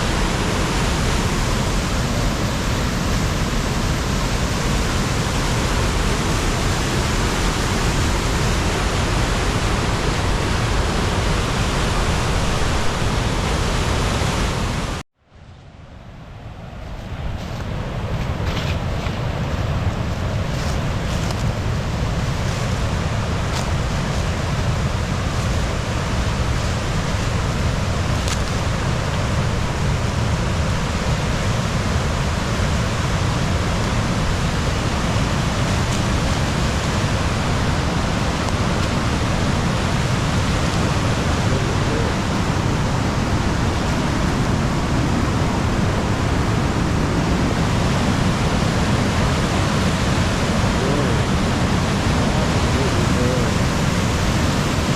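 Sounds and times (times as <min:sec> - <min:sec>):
waterfall rushing: 0:00.0 - 0:15.0, 0:17.8 - 0:54.9.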